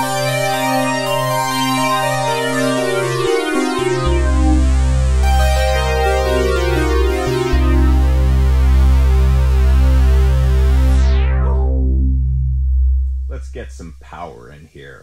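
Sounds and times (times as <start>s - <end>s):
synthesizer chords with deep bass: 0.0s - 14.2s.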